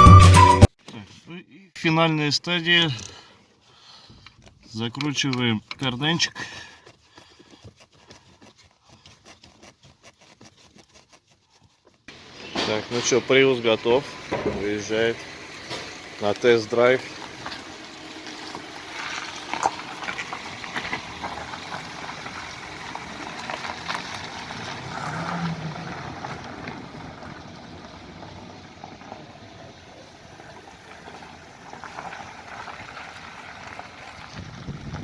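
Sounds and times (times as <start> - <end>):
tyre and road noise: 3.8 - 35.0.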